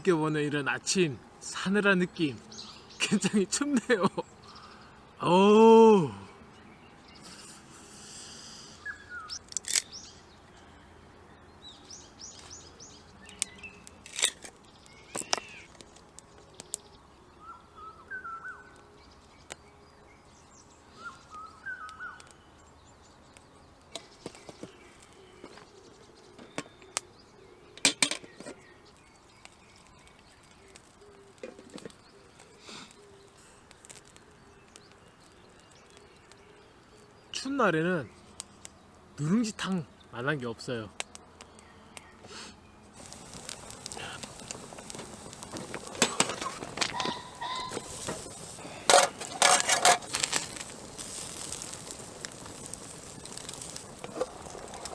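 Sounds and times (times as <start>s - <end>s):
bird chirps: 6.3s - 10.8s, 14.6s - 40.2s, 41.0s - 54.9s.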